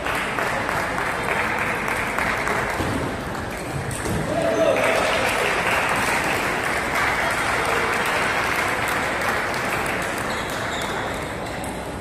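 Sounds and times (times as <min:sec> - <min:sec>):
spectators applauding: 0:00.0 - 0:03.7, 0:04.3 - 0:11.5.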